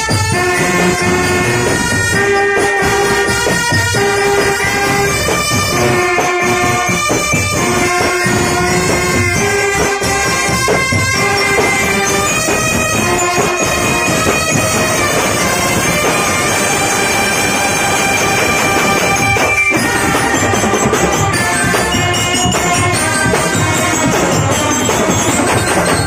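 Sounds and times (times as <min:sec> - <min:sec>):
brass band playing: 0:00.0 - 0:26.0
percussion strikes: 0:00.0 - 0:26.0.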